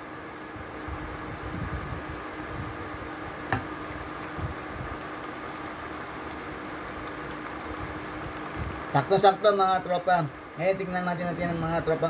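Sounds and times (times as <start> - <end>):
induction cooker hum and hiss: 0.0 - 12.0.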